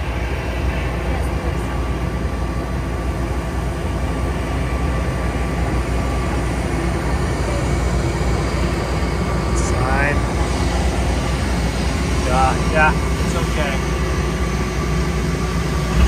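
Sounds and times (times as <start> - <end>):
tug engine low rumble: 0.0 - 16.0.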